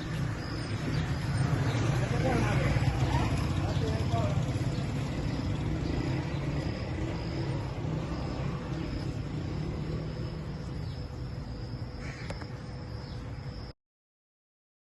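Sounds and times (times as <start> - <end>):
insects chirping in trills: 0.0 - 13.8.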